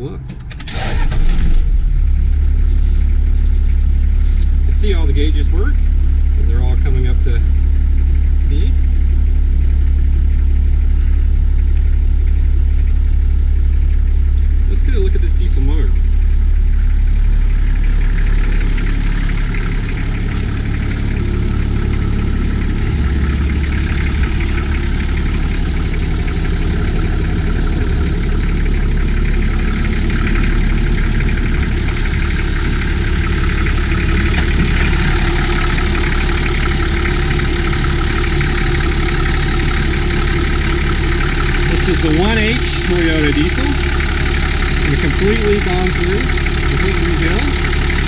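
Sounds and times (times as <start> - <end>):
diesel engine idling: 0.0 - 48.0.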